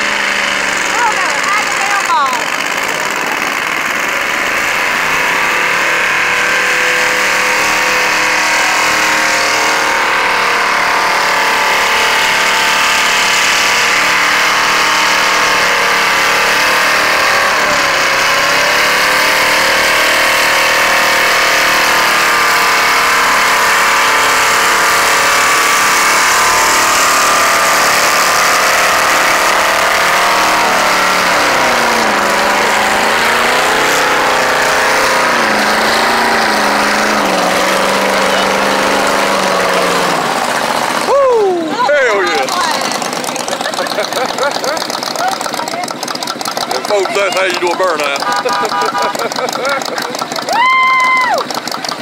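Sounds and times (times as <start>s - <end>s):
car engine at high revs: 0.0s - 52.0s
tyres spinning on pavement: 0.0s - 52.0s.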